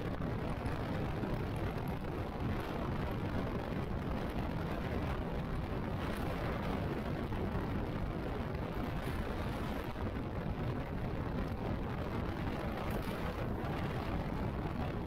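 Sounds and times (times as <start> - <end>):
motorcycle engine and road noise: 0.0 - 15.0
wind rushing over microphone: 0.0 - 15.0.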